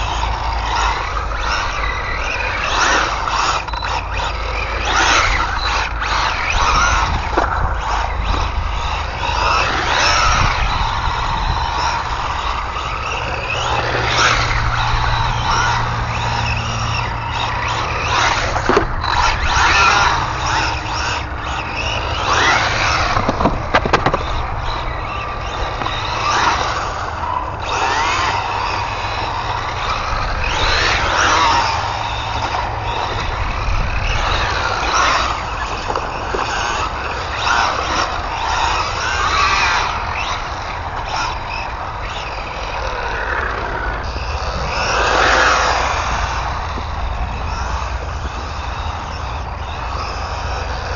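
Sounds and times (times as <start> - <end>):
electric motor whining: 0.0 - 50.9.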